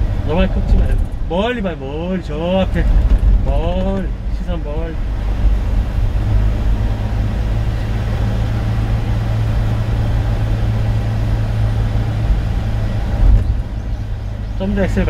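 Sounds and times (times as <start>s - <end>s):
road noise inside cab: 0.0s - 15.0s
truck engine drone: 0.0s - 15.0s.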